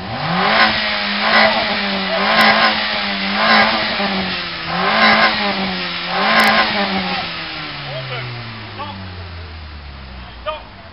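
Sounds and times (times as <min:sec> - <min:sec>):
car engine at high revs: 0:00.0 - 0:10.9.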